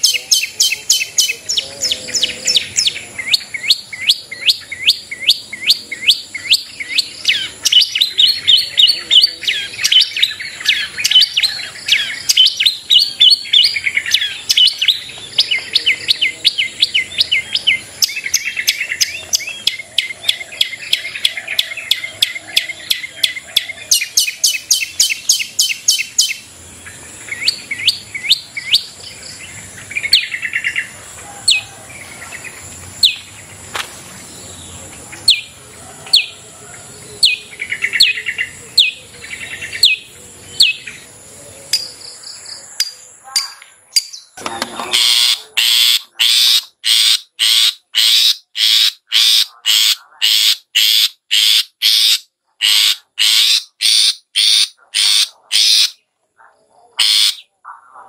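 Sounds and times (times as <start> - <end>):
shrike singing: 0.0 - 56.1.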